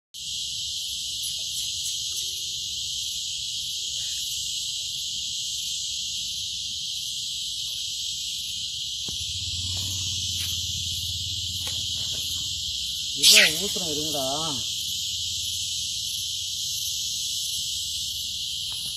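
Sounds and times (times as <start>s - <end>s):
high-pitched insect chorus: 0.2s - 18.9s.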